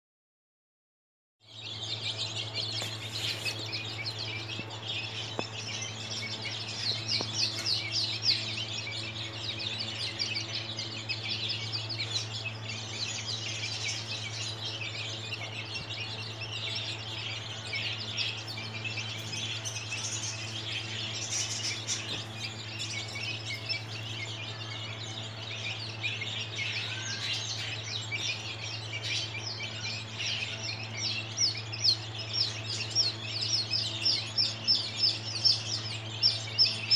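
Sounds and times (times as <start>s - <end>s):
chicks peeping: 1.5s - 36.9s
steady low hum: 1.5s - 36.9s.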